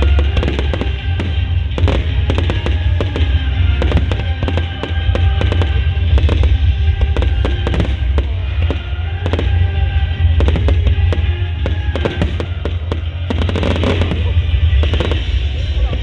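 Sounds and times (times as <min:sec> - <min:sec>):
fireworks bursting and crackling: 0:00.0 - 0:16.0
heavy low rumble: 0:00.0 - 0:16.0
music playing: 0:00.0 - 0:16.0.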